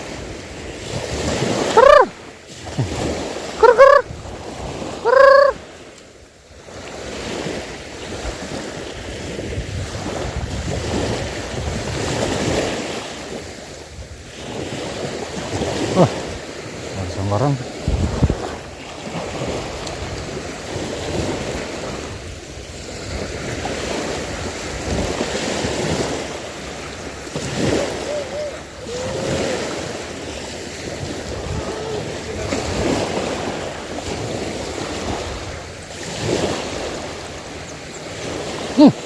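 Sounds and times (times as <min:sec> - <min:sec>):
waves washing: 0:00.0 - 0:39.0
wind buffeting microphone: 0:06.6 - 0:38.6.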